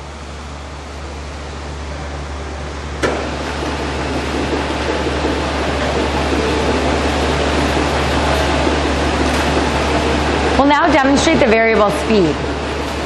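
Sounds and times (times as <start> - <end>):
motor hum: 0.0 - 13.0.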